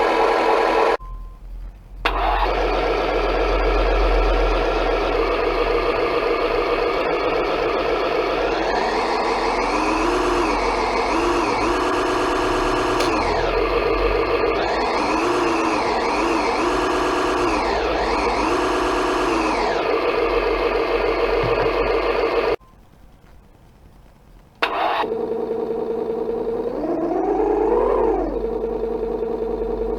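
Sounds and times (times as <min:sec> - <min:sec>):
simulated engine revving and idling: 0:00.0 - 0:01.0, 0:02.0 - 0:22.6, 0:24.6 - 0:29.9
rising start-up sound: 0:02.1 - 0:22.6, 0:24.6 - 0:29.9.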